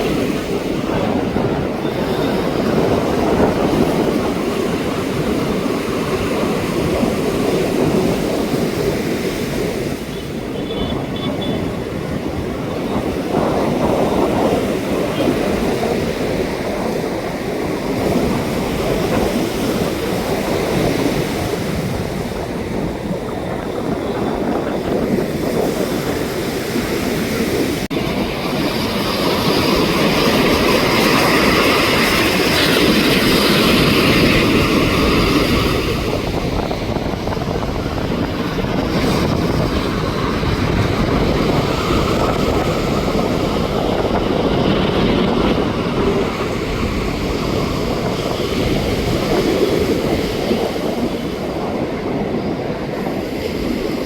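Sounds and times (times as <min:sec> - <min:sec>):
jet airliner flying over: 0:00.0 - 0:54.0
wind: 0:00.0 - 0:54.0.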